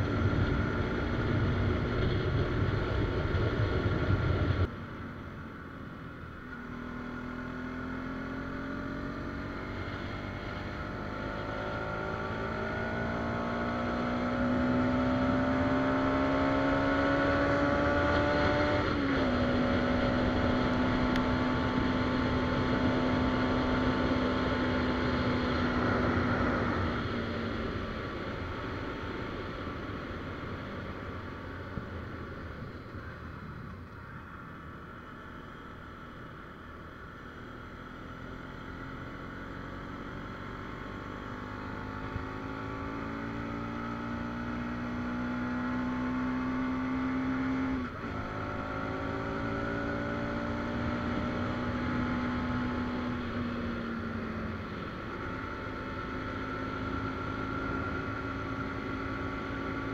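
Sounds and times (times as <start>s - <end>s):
motorcycle engine: 0.0s - 59.9s
wind and road noise: 0.0s - 59.9s.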